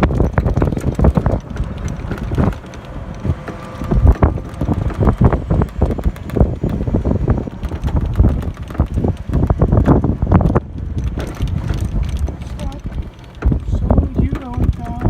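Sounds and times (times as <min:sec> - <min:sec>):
small clicks: 0:00.0 - 0:15.0
wind buffeting microphone: 0:00.0 - 0:15.0.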